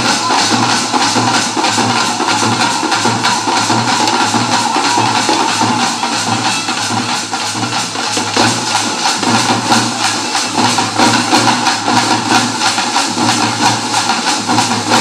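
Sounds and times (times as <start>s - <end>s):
barrel drums playing: 0.0s - 15.0s
frame drums beaten with sticks: 0.0s - 15.0s.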